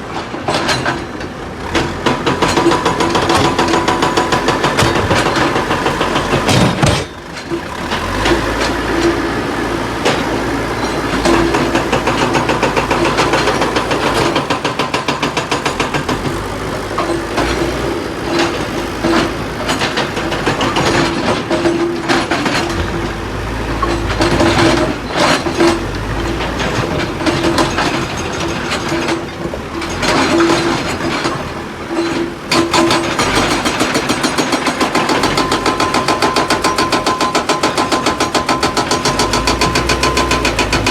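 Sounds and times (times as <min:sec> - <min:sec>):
hydraulic rock breaker hammering stone: 0:00.0 - 0:40.9.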